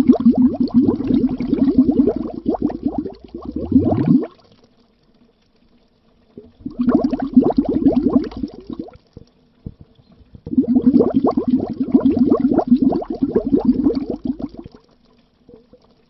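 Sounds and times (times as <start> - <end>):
bubbles gurgling under water: 0.0 - 4.8, 6.3 - 16.0.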